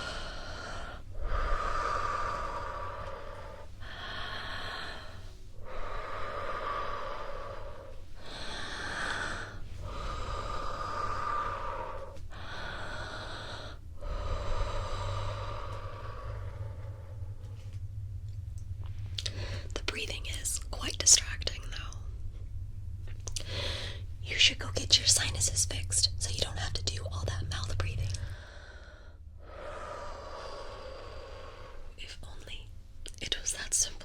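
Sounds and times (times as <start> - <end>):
deep human breathing: 0.0 - 33.1.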